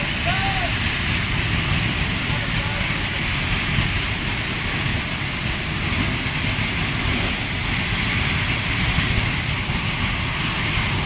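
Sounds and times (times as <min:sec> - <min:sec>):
fire burning with rumble: 0:00.0 - 0:11.0.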